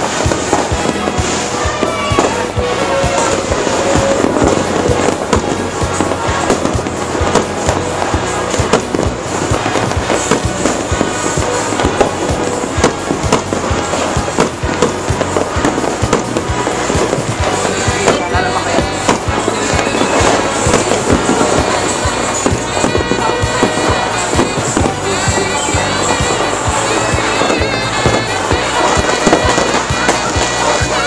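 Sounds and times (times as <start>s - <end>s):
fireworks and firecrackers banging: 0.0s - 31.0s.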